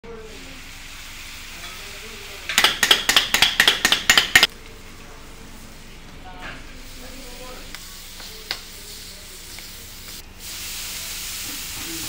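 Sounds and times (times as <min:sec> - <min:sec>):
frying sizzle: 0:00.0 - 0:04.6, 0:06.6 - 0:12.0.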